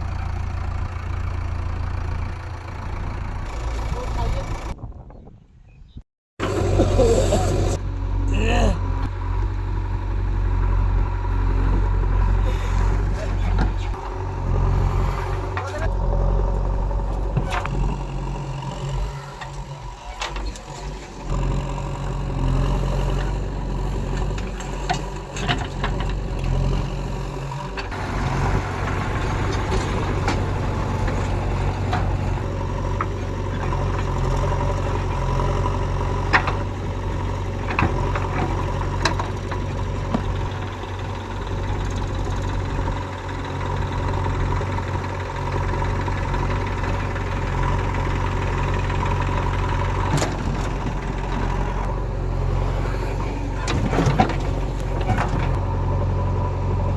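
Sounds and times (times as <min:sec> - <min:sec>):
heavy diesel engine running: 0:00.0 - 0:04.8, 0:06.4 - 0:56.9.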